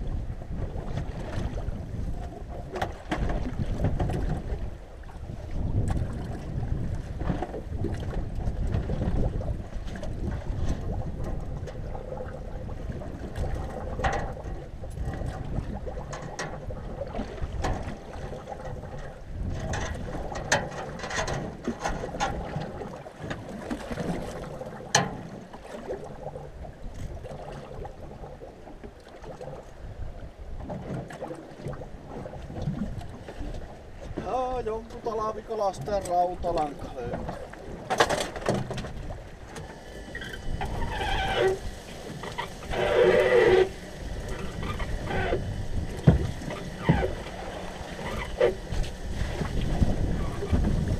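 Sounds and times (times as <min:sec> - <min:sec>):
water slapping metal boat hull: 0:00.0 - 0:50.9
wind buffeting microphone: 0:00.0 - 0:50.9
gear knocking in boat: 0:00.5 - 0:12.3, 0:13.0 - 0:28.2, 0:30.7 - 0:50.9.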